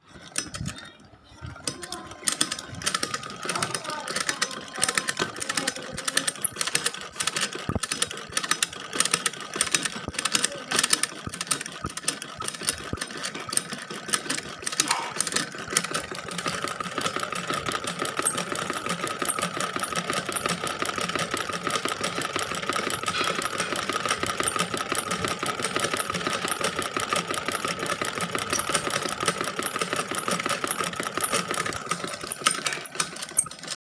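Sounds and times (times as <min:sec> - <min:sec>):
sewing machine stitching: 0:00.0 - 0:33.8.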